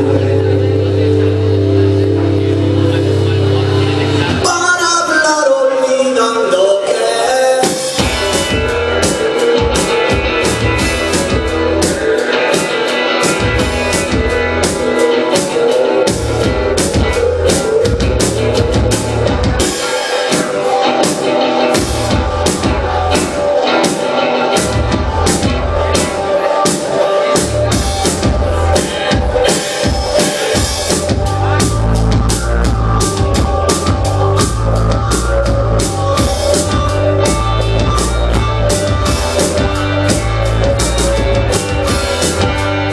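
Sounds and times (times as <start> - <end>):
guitar: 0.0 - 42.9
live rock band: 0.0 - 42.9
drum kit beat: 7.6 - 42.9.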